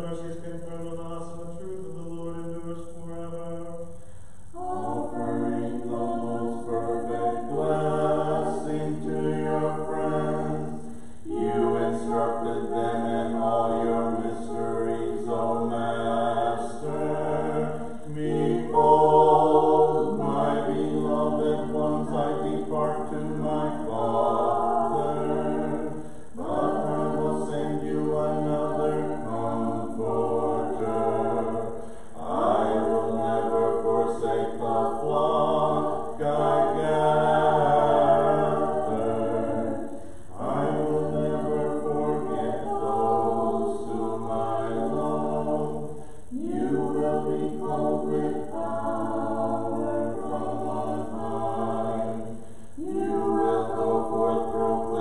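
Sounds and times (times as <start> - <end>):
choir singing a cappella hymn: 0.0 - 55.0.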